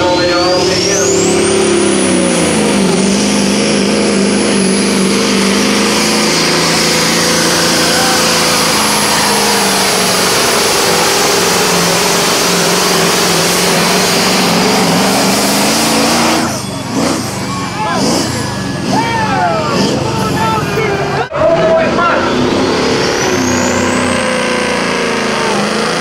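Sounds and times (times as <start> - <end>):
turbo whine: 0.0 - 20.9
diesel truck engine running hard: 0.0 - 26.0.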